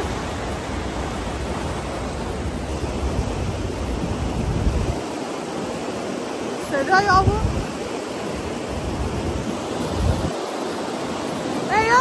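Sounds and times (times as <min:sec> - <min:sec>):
river water rushing over rocks: 0:00.0 - 0:12.0
wind buffeting microphone: 0:00.0 - 0:12.0.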